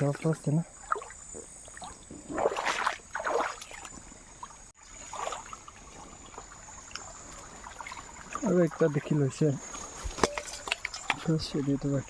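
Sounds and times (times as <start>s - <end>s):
river water splashing and trickling: 0.0s - 12.0s.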